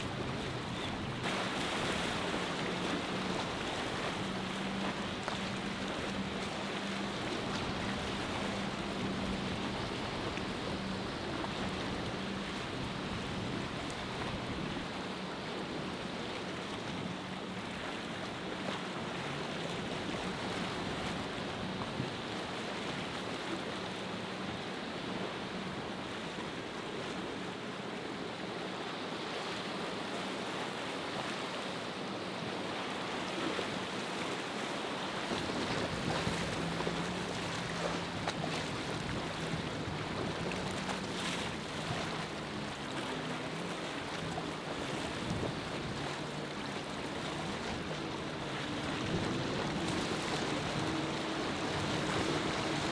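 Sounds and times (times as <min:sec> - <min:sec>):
choppy sea waves: 0:00.0 - 0:52.9
distant boat engine hum: 0:00.0 - 0:52.9.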